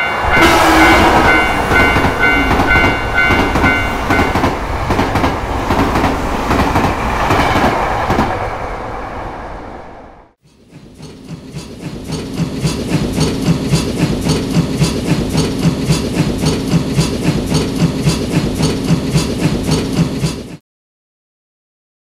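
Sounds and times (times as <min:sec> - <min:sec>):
rhythmic train chugging: 0:00.0 - 0:08.3, 0:10.5 - 0:20.6.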